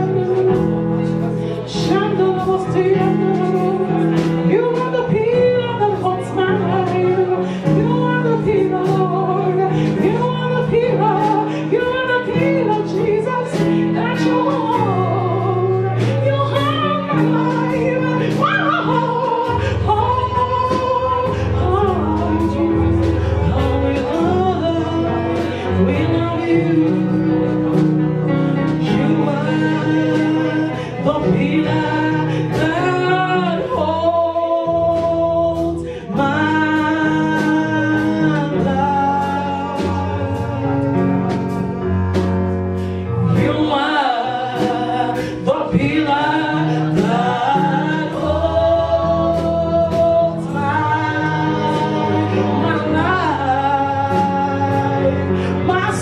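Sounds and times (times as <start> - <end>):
bass line: 0.0 - 56.0
keyboard chords: 0.0 - 56.0
singers: 0.0 - 56.0.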